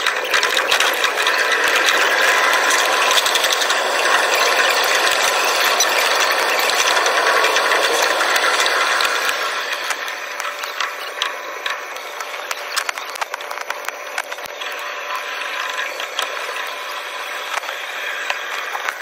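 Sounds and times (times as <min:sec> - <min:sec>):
sped-up train rail clatter: 0:00.0 - 0:19.0.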